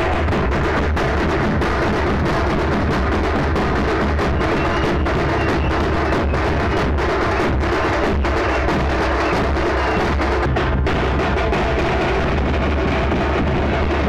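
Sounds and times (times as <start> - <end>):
large drums playing rhythm: 0.0 - 14.0.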